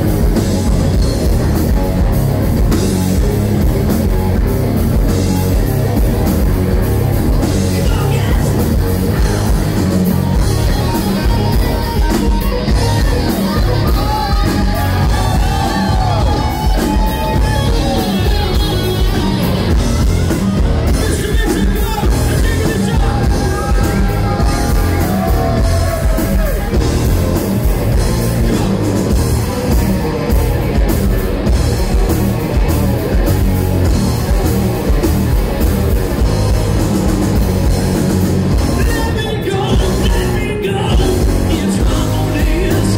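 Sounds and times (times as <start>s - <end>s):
bending lead guitar melody: 0.0s - 42.9s
rock band playing loud: 0.0s - 42.9s.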